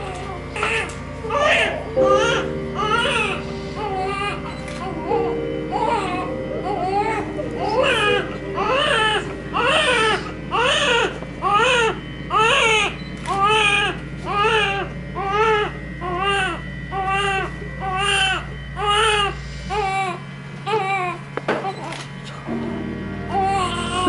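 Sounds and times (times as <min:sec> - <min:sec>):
newborn baby crying: 0:00.0 - 0:21.9, 0:23.3 - 0:24.0.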